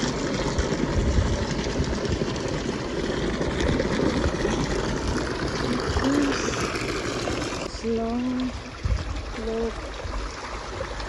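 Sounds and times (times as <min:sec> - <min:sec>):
wind buffeting microphone: 0:00.0 - 0:10.3
water trickling into a bath: 0:00.0 - 0:11.0.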